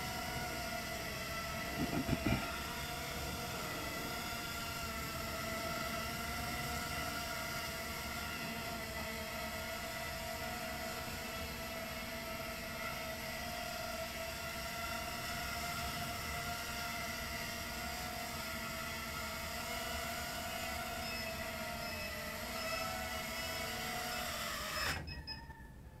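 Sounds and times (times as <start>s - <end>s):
quadcopter motors whining: 0.0s - 25.8s.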